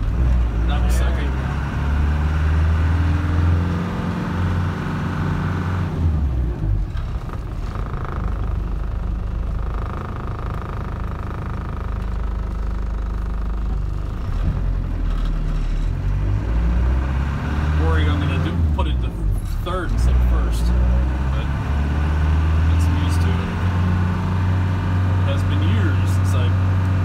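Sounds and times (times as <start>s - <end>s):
engine heard from inside cab: 0.0s - 27.0s.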